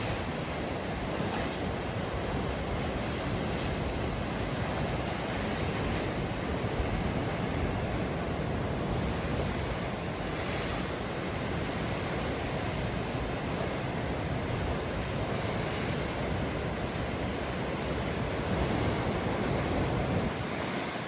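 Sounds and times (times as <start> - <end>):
surf washing on shore: 0.0 - 21.0.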